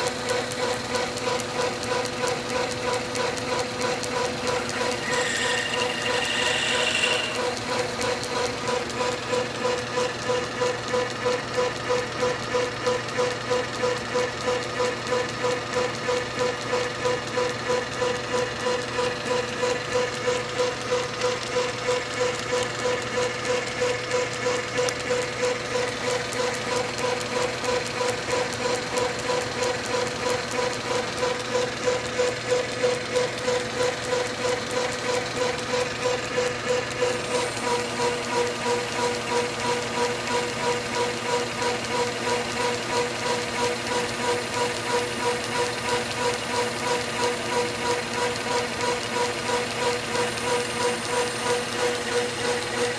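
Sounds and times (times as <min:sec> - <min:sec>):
metal lathe whining: 0:00.0 - 0:11.8, 0:12.4 - 0:52.9.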